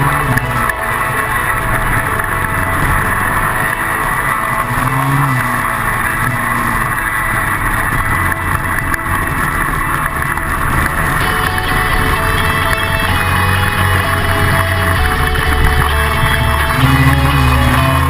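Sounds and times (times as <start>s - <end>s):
motorbike engine running: 0.0s - 18.0s
steady rushing noise: 0.0s - 18.0s.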